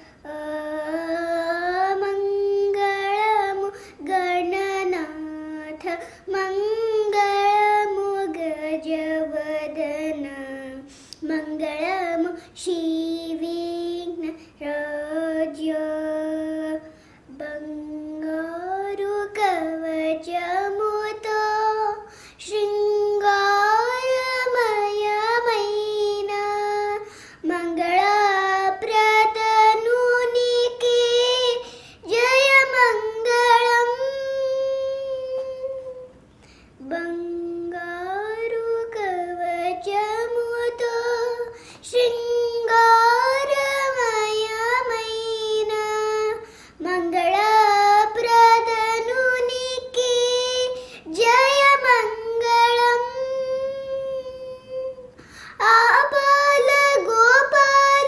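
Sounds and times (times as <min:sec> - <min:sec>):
girl singing unaccompanied: 0:00.0 - 0:58.0.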